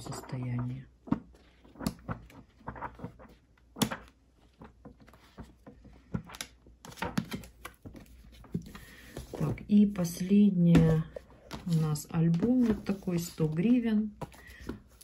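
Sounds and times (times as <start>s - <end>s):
book pages flipping: 0.0s - 15.0s.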